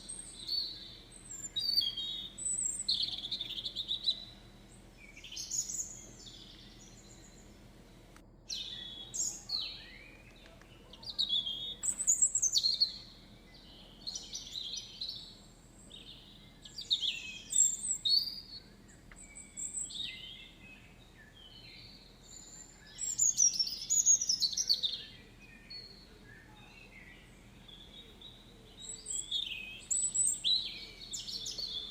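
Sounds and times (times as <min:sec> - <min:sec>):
songbirds chirping and trilling: 0:00.0 - 0:31.9.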